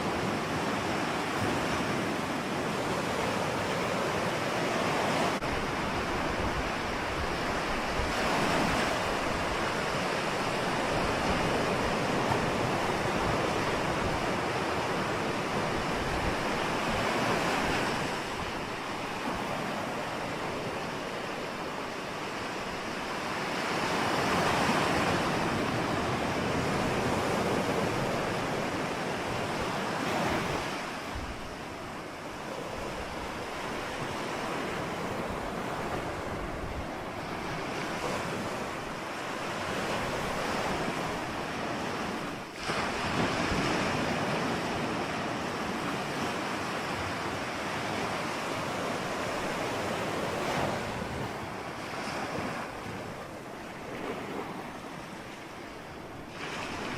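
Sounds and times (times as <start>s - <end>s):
ocean surf washing ashore: 0.0s - 56.9s
wind rumble on microphone: 0.0s - 56.9s.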